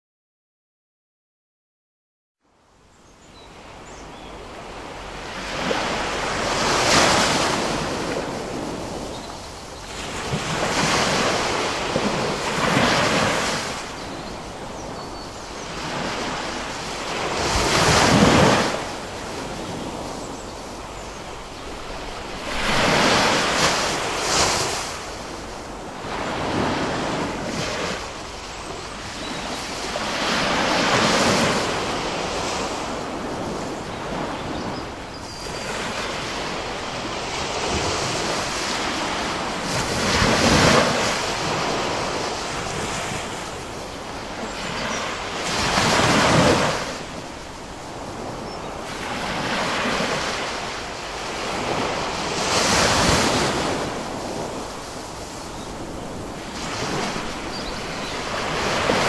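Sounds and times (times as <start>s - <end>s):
waves breaking and washing back: 3.6s - 59.0s.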